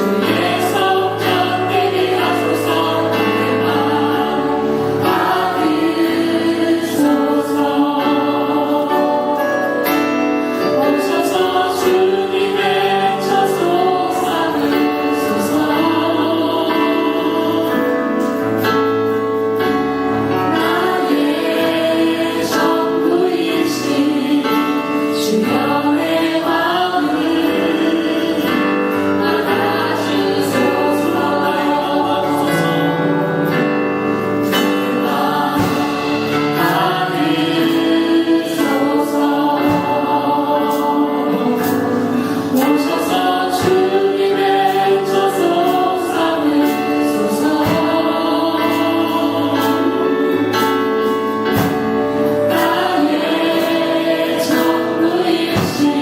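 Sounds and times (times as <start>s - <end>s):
choir singing gospel music: 0.0s - 56.0s.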